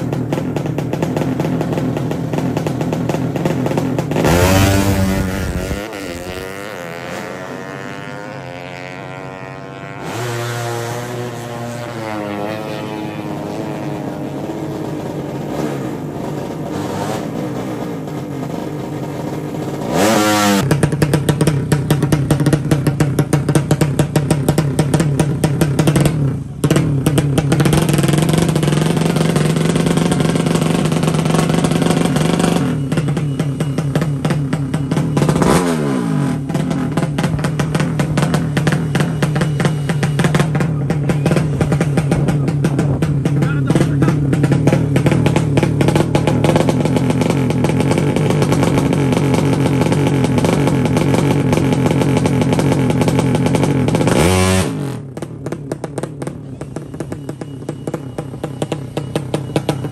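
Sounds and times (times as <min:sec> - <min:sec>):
motorcycle engine pulsing: 0:00.0 - 0:59.9
motorcycle engine revving: 0:00.0 - 0:59.9.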